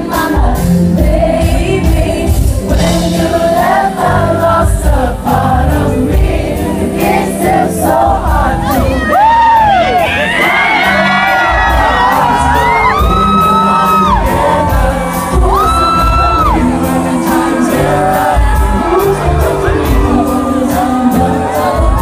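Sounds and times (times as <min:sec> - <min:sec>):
crowd: 0:00.0 - 0:22.0
woman singing with band: 0:00.0 - 0:22.0.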